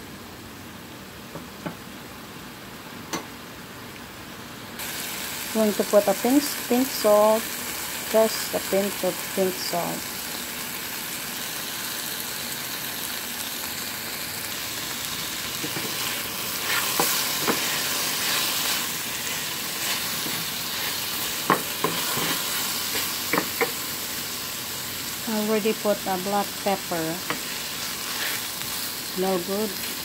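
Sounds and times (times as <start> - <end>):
vegetables sizzling in a pan: 1.2 - 30.0.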